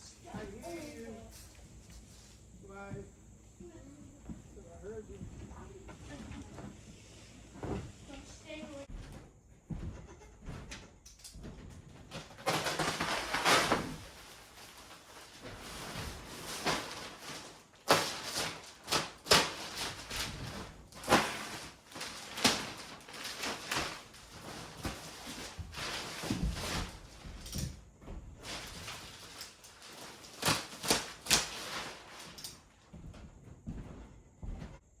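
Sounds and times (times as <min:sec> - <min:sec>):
scraping rustle: 0:00.0 - 0:09.8, 0:10.4 - 0:34.1.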